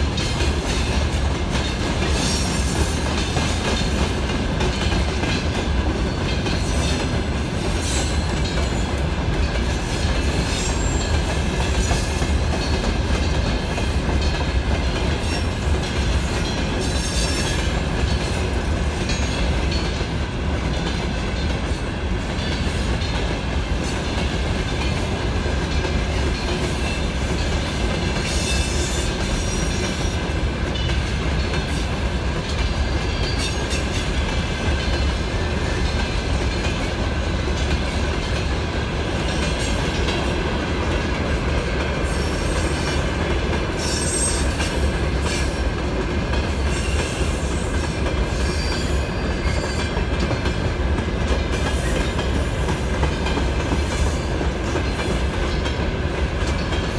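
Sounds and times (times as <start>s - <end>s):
train wheels on rail: 0.0s - 56.9s.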